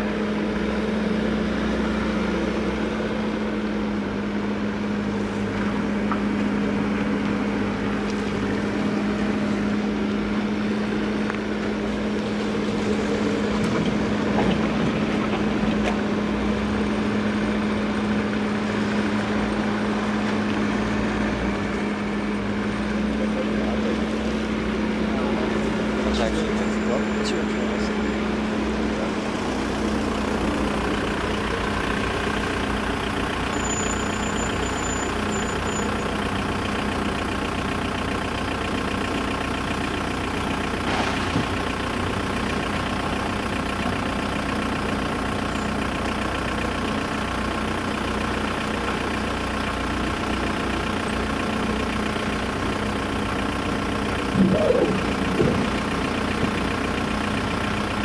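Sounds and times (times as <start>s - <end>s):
engine clatter: 0.0s - 58.0s
vehicle engine idling: 0.0s - 58.0s.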